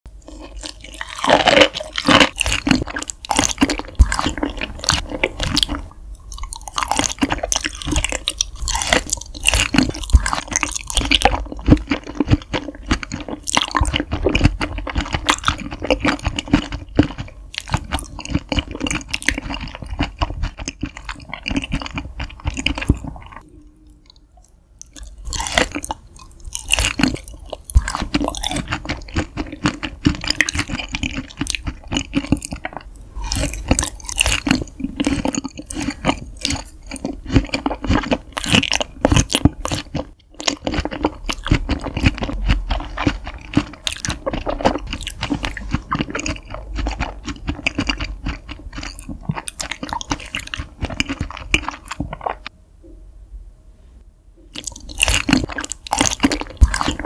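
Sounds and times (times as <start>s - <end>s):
wet chewing clicks and smacks: 0.3s - 52.5s, 54.5s - 57.0s.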